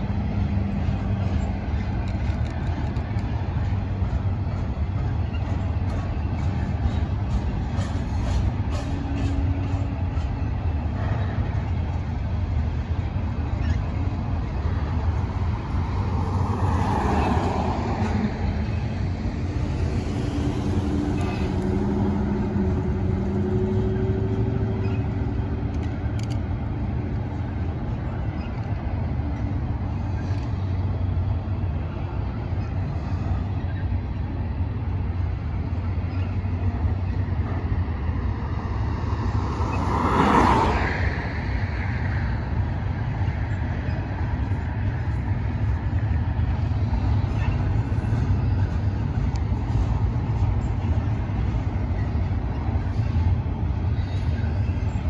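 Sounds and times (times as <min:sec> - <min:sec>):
train rumbling over a bridge: 0:00.0 - 0:55.0.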